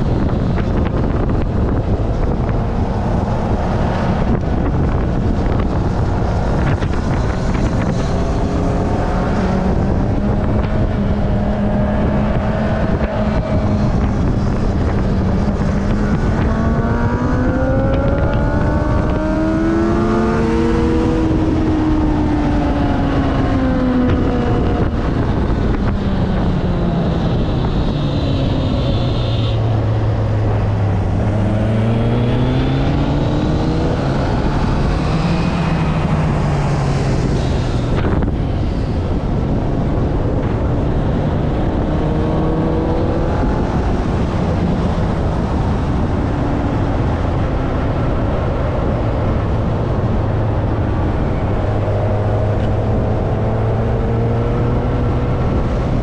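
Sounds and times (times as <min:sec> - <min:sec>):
wind rush: 0:00.0 - 0:56.0.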